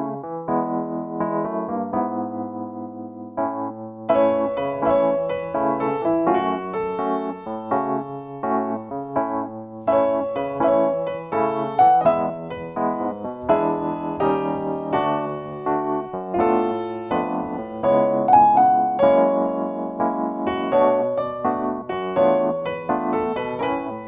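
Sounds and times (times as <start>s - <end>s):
instrumental piano music: 0.0s - 24.0s.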